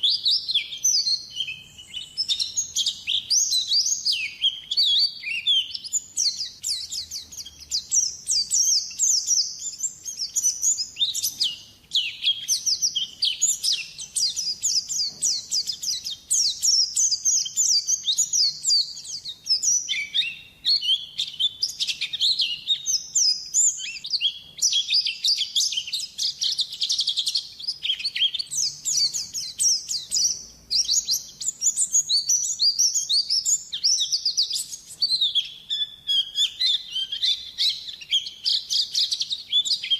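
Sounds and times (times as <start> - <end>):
bird high twittering song: 0.0 - 39.9.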